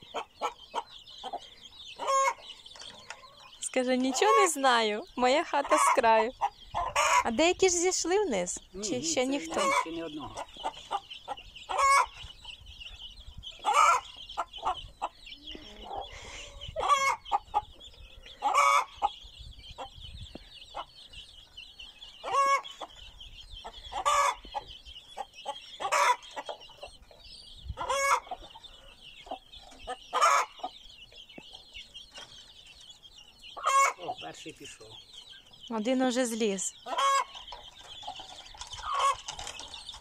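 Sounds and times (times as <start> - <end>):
hen clucking: 0.0 - 21.2, 21.8 - 40.0
chicks peeping: 0.0 - 40.0.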